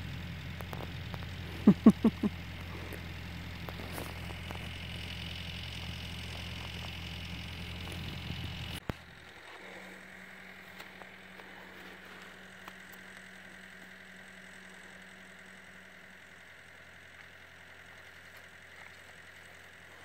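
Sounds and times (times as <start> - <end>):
engine idling hum: 0.0 - 20.0.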